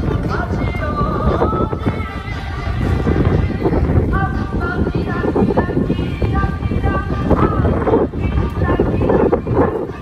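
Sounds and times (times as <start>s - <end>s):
dance music with singer: 0.0s - 10.0s
wind buffeting microphone: 0.0s - 10.0s.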